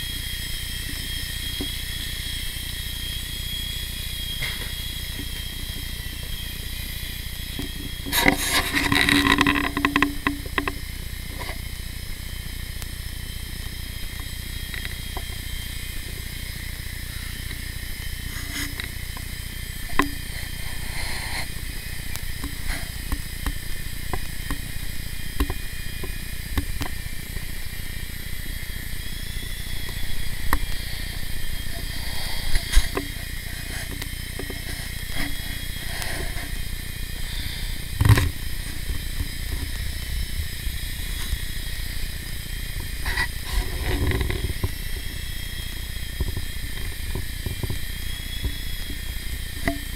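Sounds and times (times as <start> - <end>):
rc helicopter rotor whine: 0.0 - 49.9.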